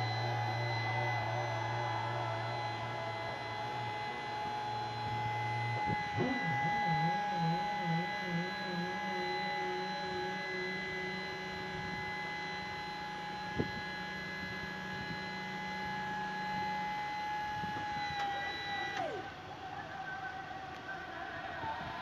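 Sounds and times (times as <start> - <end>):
hydraulic pump whining: 0.0 - 19.4.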